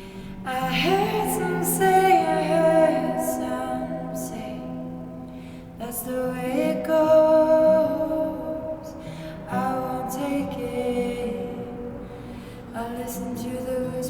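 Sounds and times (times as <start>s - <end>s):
acoustic guitar: 0.0s - 14.0s
person singing slow song: 0.0s - 14.0s.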